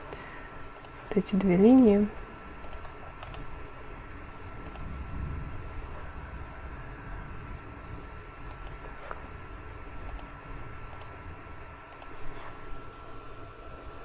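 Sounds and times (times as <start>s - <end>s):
faint high hum: 0.0s - 14.0s
low room rumble: 0.0s - 14.0s.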